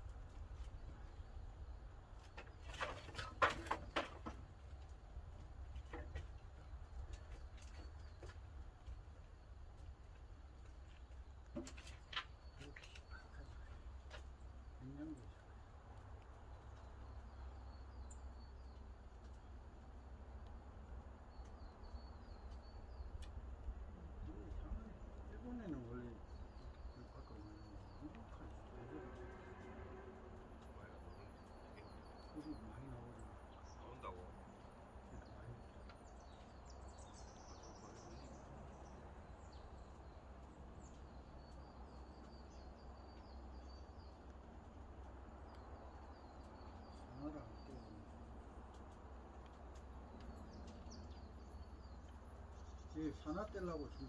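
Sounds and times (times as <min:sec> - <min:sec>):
small bird chirping: 0:05.8 - 0:29.6, 0:30.6 - 0:54.0.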